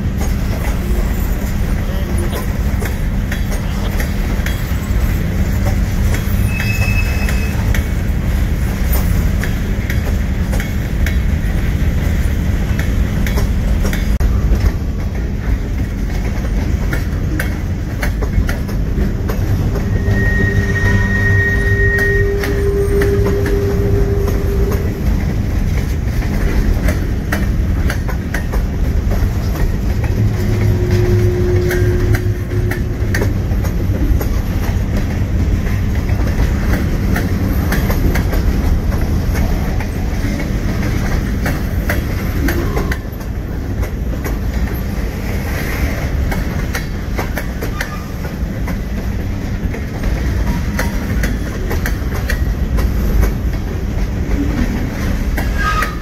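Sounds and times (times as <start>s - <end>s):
freight train rumbling past: 0.0s - 56.0s
train wheels clicking over rail joints: 0.0s - 56.0s.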